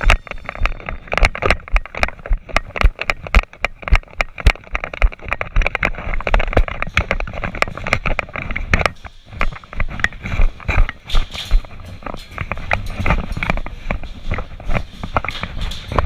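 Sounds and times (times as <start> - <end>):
clothing and equipment rustling: 0.0 - 16.0
gear and camera rattle: 0.0 - 16.0
running footsteps: 0.0 - 16.0.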